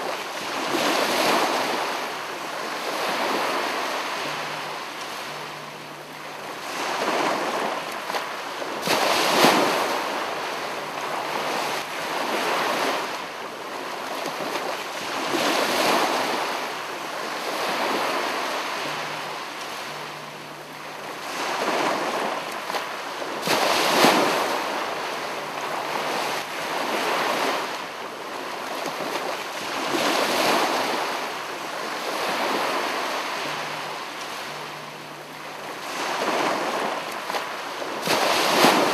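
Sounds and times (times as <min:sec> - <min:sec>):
rushing surf-like water: 0:00.0 - 0:38.9.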